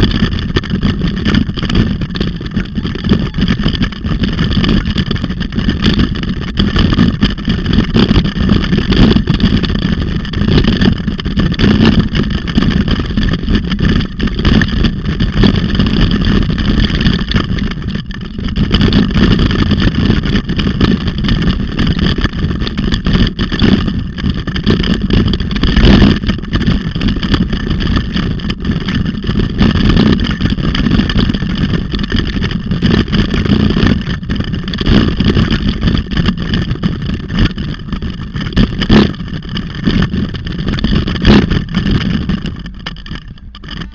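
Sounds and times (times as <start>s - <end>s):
wind and road noise rumble: 0.0s - 43.9s.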